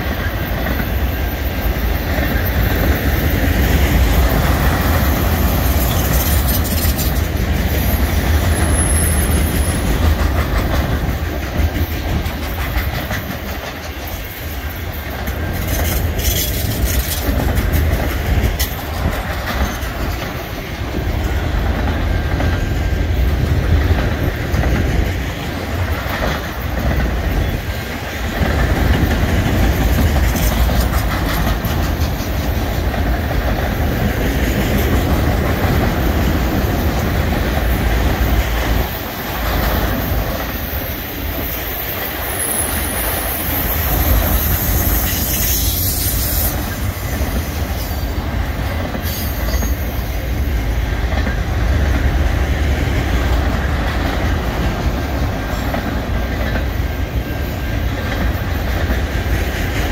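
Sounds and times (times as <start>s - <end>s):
steel wheels rumbling on rail: 0.0s - 59.9s
wheels clacking over rail joints: 0.0s - 59.9s.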